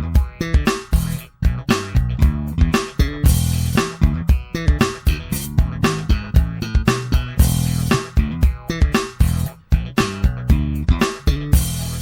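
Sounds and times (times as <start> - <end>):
slap bass guitar line: 0.0 - 12.0.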